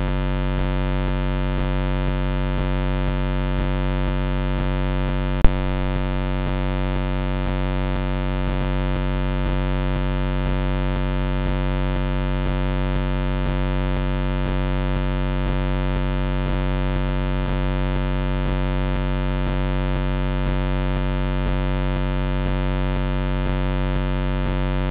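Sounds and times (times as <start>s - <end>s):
electrical hum and buzz: 0.0s - 24.9s.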